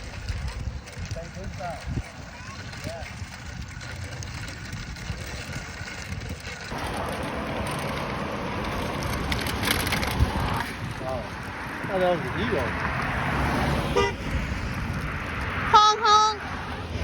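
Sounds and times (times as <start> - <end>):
wind rumbling on microphone: 0.0 - 15.7
bicycle tyres rolling: 0.0 - 17.0.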